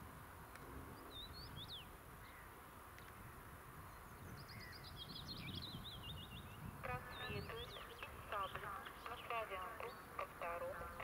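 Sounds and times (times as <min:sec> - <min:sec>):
small songbirds chirping: 0:00.4 - 0:11.0.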